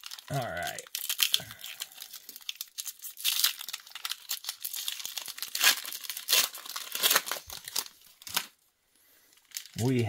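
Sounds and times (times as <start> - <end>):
foil wrappers crinkling: 0.0 - 8.6, 9.2 - 10.0.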